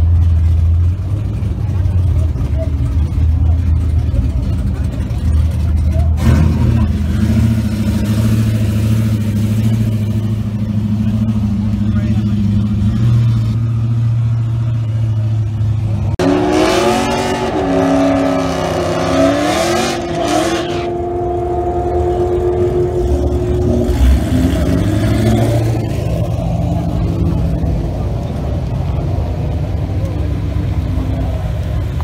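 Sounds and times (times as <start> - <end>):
car engines idling: 0.0 - 32.0
car engines revving: 0.0 - 32.0.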